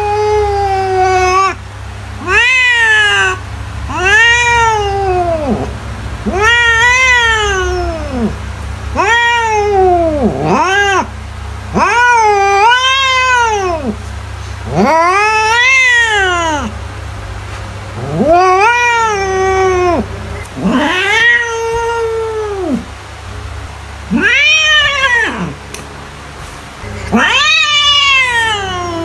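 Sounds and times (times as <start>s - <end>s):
cat meowing: 0.0s - 1.6s, 2.2s - 11.1s, 11.7s - 14.0s, 14.6s - 16.8s, 18.0s - 22.9s, 24.1s - 25.6s, 26.8s - 29.0s
steady low hum: 0.0s - 29.0s.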